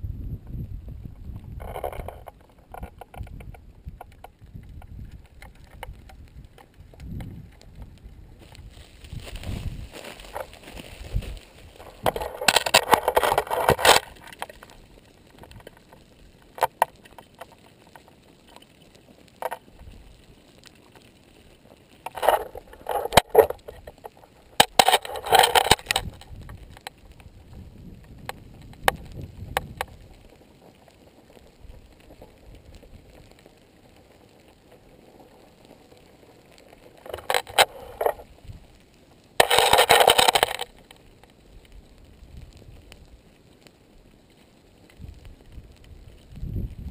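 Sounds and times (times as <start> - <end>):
lava crust crackling and scraping: 0.0 - 46.9.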